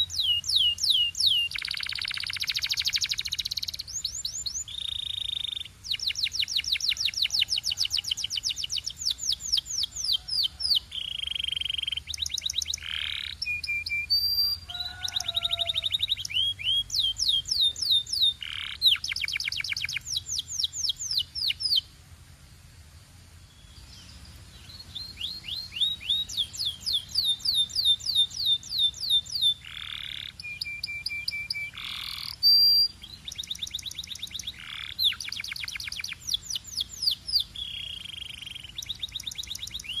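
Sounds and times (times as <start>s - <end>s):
canary singing: 0.0s - 21.9s, 23.6s - 40.0s.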